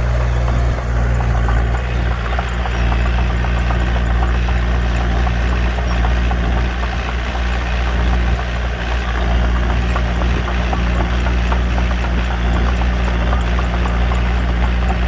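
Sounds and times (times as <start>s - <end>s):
bulldozer diesel engine running: 0.0s - 15.0s
clatter of knocks and clicks: 0.0s - 15.0s.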